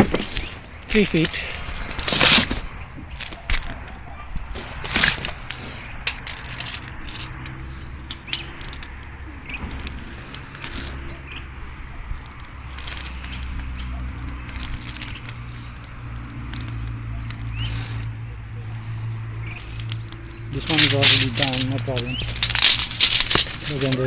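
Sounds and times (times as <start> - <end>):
tape measure clicks and scrapes: 1.7 - 9.0, 9.8 - 11.0, 11.7 - 18.3, 19.5 - 24.0.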